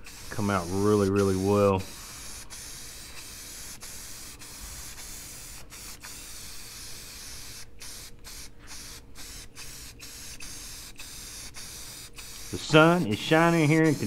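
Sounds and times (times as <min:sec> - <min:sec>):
spray paint can hissing: 0:00.0 - 0:14.0.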